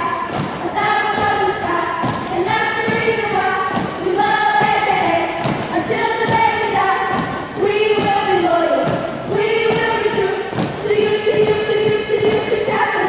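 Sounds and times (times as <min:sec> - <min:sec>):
women singing a chant: 0:00.0 - 0:13.0
stomping thumps: 0:00.3 - 0:12.9.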